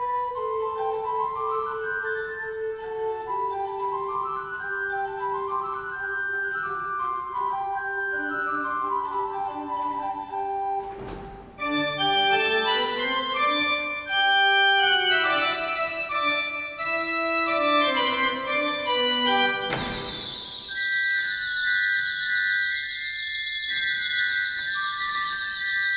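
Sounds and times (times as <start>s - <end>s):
pipe organ playing sustained notes: 0.0s - 25.9s.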